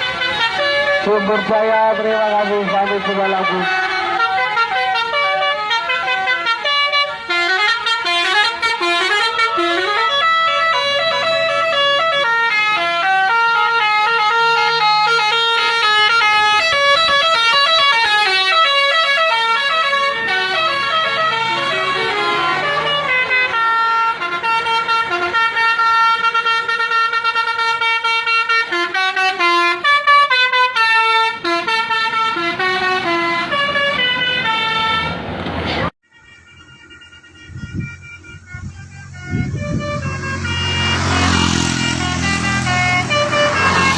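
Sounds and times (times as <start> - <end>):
musical bus horn playing a tune: 0.0 - 43.9.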